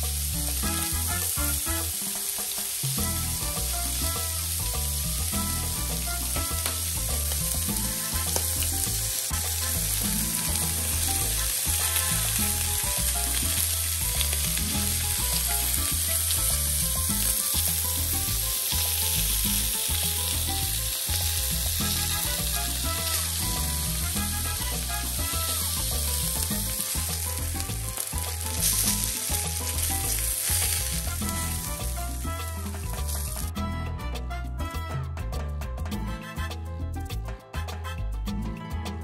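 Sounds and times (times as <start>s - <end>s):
fish frying in oil: 0.0s - 33.5s
background music: 0.0s - 39.0s.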